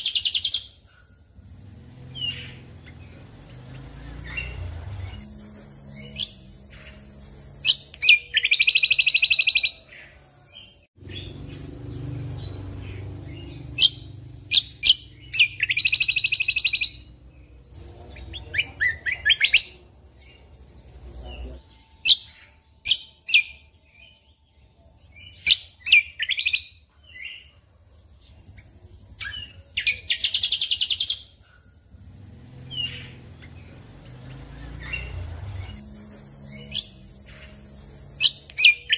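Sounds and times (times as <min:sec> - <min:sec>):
songbird chirps and whistles: 0:00.0 - 0:01.2, 0:02.0 - 0:11.4, 0:12.3 - 0:27.6, 0:28.4 - 0:31.7, 0:34.3 - 0:38.9
bird buzzy trills: 0:00.0 - 0:38.9.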